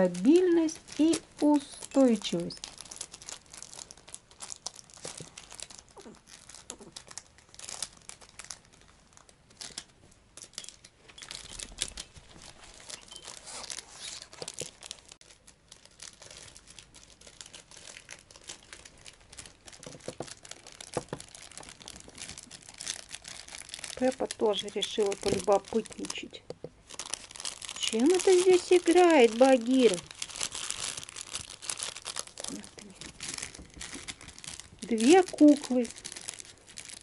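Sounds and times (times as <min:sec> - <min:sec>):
plastic packet crinkling: 0:00.0 - 0:37.0.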